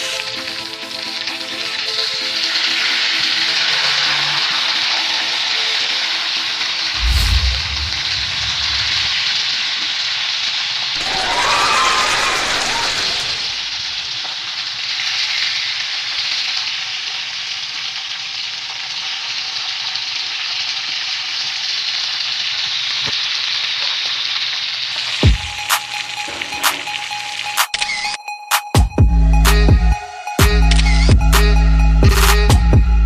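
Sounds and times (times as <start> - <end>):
fish frying in hot oil: 0.0 - 27.7.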